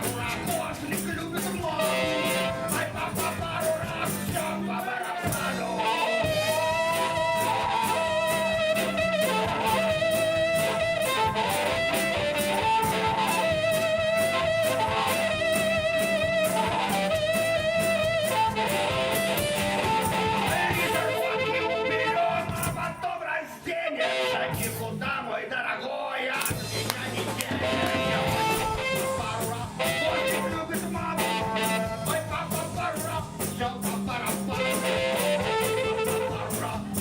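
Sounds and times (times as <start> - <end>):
drums: 0.0 - 23.6, 24.3 - 25.4, 26.3 - 37.0
guitar: 0.0 - 25.6, 26.3 - 37.0.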